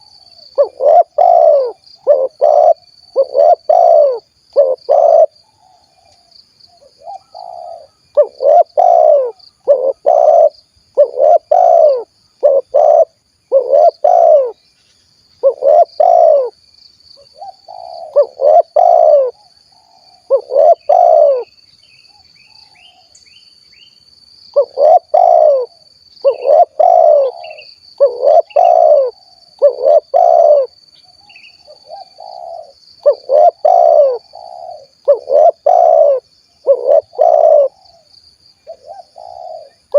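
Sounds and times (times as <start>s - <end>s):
dove cooing: 0.0s - 6.2s, 6.8s - 14.6s, 15.4s - 16.6s, 17.2s - 21.5s, 24.5s - 38.1s, 38.7s - 39.9s.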